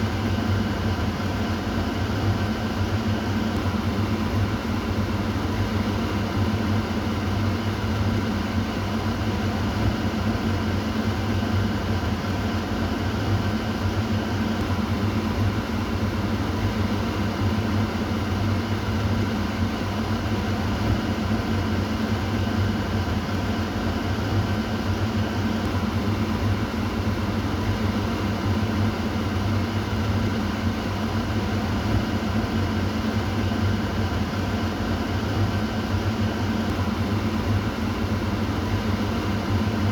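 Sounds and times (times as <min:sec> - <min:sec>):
exhaust fan running: 0:00.0 - 0:39.9.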